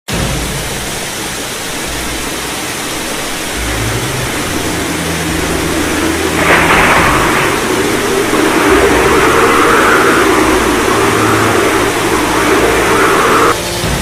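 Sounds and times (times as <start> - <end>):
rushing wind: 0.2 - 14.0
low rumble: 0.7 - 13.6.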